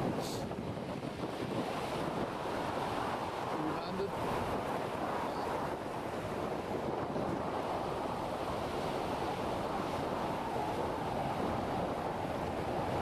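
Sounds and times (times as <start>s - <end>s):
water noise: 0.0s - 13.0s
wind on microphone: 0.0s - 13.0s.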